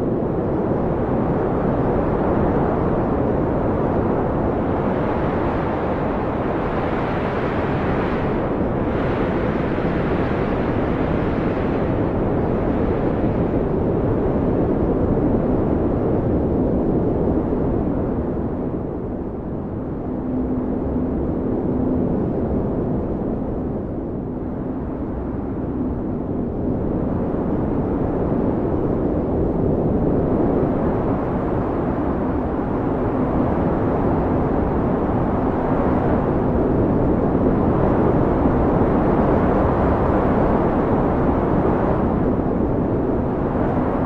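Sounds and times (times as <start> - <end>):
blizzard wind rushing: 0.0 - 44.0.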